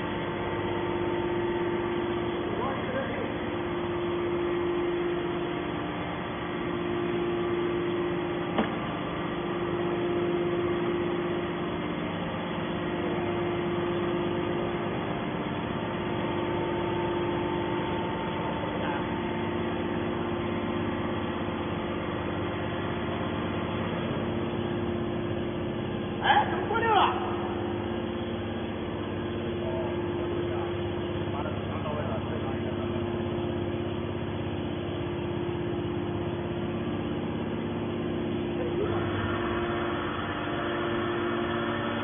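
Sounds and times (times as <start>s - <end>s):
hydraulic power unit humming: 0.0s - 42.0s.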